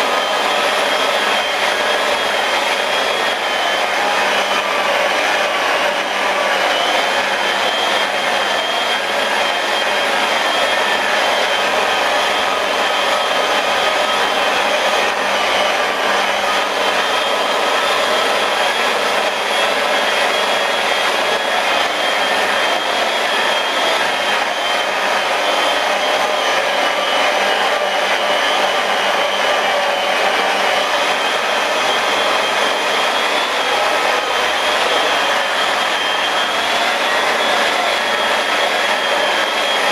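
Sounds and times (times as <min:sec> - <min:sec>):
electric polisher motor whine: 0:00.0 - 0:39.9.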